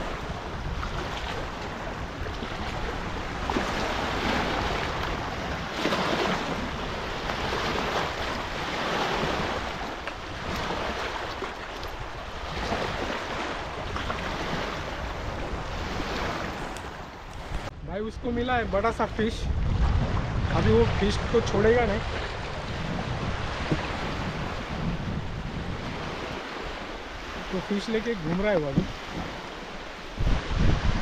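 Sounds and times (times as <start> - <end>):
small waves washing against shore: 0.0 - 31.0
wind blowing on microphone: 0.0 - 31.0.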